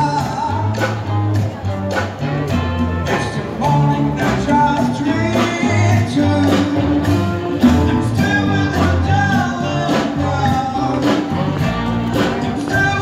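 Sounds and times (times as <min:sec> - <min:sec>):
drum beats: 0:00.0 - 0:13.0
low bass line: 0:00.0 - 0:13.0
song with singing voice: 0:00.0 - 0:13.0.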